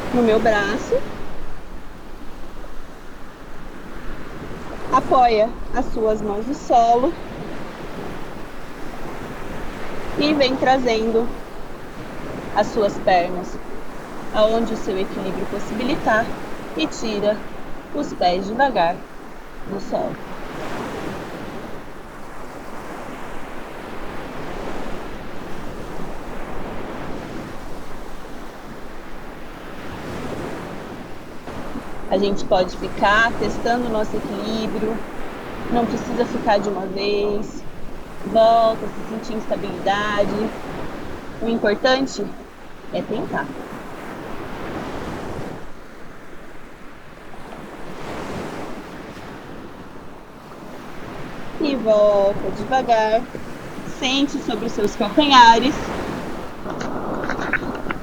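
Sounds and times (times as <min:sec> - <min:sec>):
ocean waves breaking: 0:00.0 - 0:58.0
wind buffeting microphone: 0:00.0 - 0:58.0.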